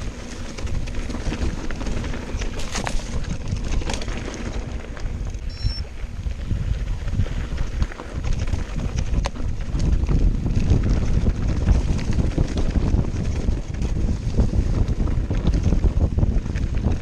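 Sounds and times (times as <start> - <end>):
mountain bike rattling on trail: 0.0 - 17.0
wind buffeting microphone: 0.0 - 17.0.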